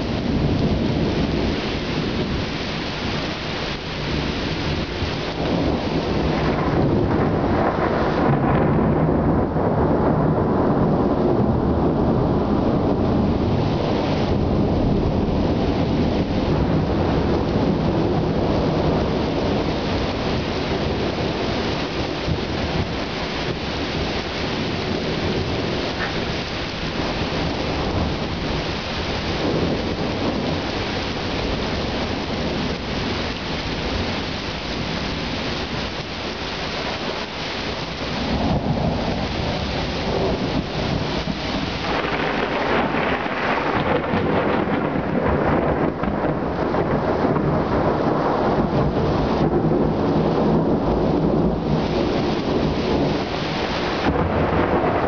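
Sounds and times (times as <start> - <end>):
heavy rain: 0.0 - 55.0
thunder rumbling: 0.0 - 55.0.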